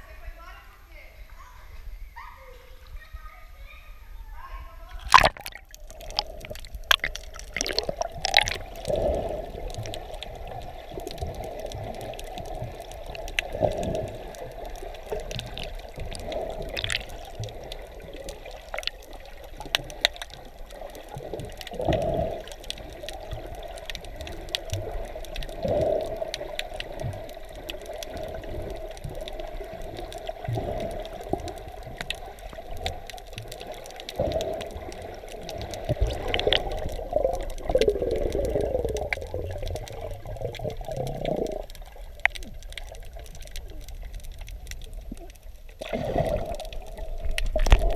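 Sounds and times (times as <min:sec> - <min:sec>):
water moving underwater: 0:01.6 - 0:47.9
faint clicks and crackles: 0:04.5 - 0:47.9.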